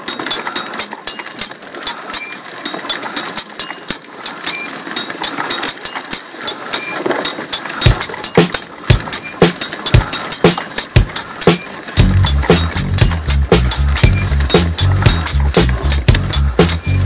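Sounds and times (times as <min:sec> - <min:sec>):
mechanism clicking and ticking: 0:00.0 - 0:17.0.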